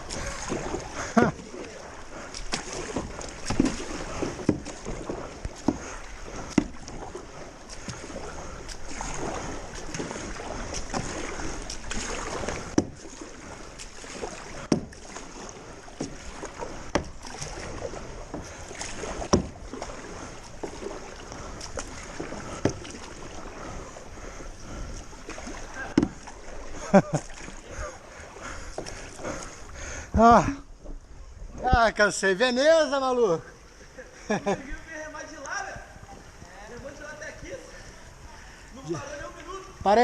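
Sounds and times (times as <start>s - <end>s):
paddle splashing in water: 0.0s - 32.3s.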